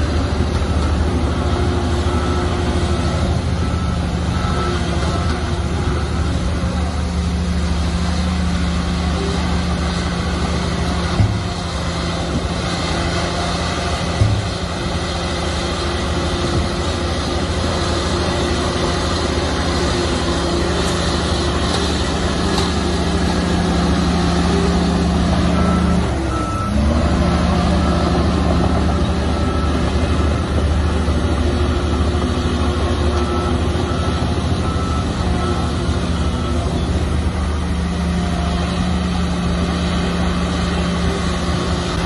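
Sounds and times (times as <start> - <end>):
diesel machinery engine running: 0.0 - 42.0
reversing alarm beeping: 0.0 - 42.0.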